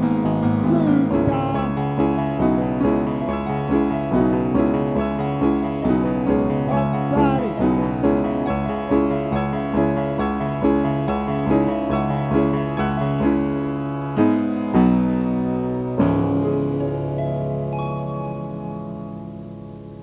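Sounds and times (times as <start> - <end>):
keyboard piano chords: 0.0 - 20.0.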